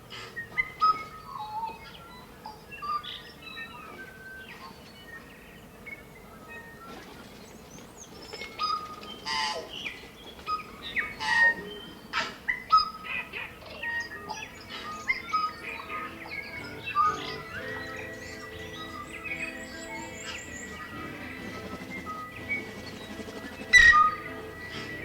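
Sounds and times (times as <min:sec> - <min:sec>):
forest birds singing: 0:00.0 - 0:25.0.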